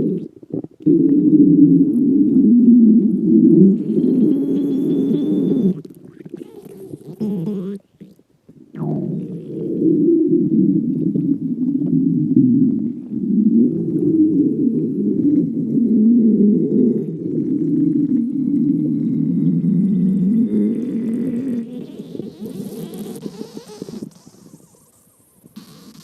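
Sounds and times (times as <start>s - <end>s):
stomach growling: 0.0s - 26.0s.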